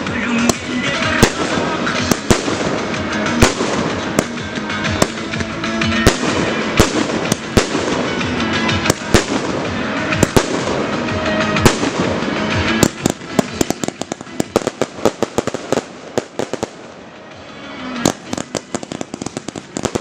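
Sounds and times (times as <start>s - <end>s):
fireworks rumble and crackle: 0.0s - 20.0s
firework shells bursting: 0.4s - 17.0s, 18.0s - 20.0s.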